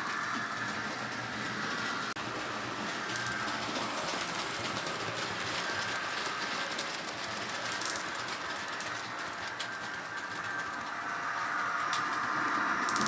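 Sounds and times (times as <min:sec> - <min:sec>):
model train rolling on track: 0:00.0 - 0:13.0
wheels clicking on rails: 0:00.0 - 0:13.0.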